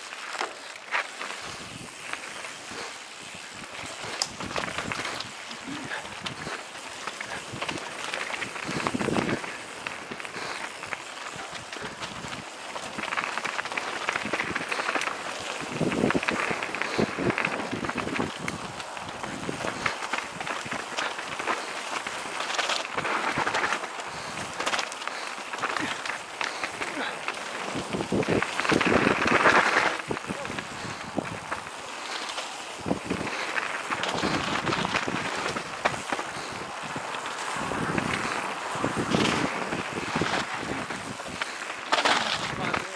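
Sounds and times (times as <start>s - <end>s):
bike clicks and rattles: 0.0s - 42.9s
bike tyres crackling over leaves: 0.0s - 42.9s.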